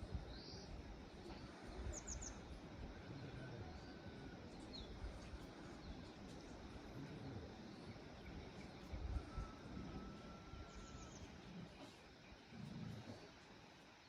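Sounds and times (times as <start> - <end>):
faint low rumble: 0.0 - 14.0.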